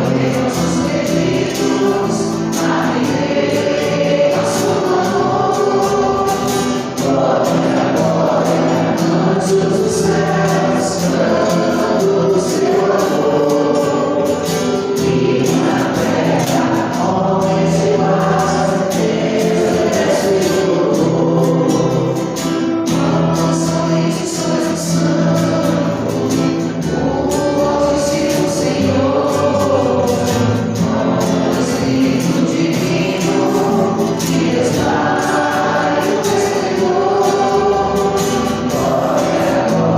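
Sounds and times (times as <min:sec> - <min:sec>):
choir singing gospel song: 0:00.0 - 0:39.9
musical accompaniment: 0:00.0 - 0:39.9.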